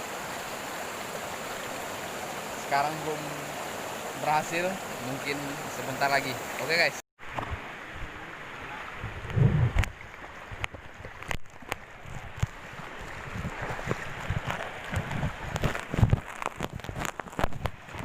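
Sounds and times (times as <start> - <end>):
river water rushing: 0.0 - 9.2, 9.8 - 18.0.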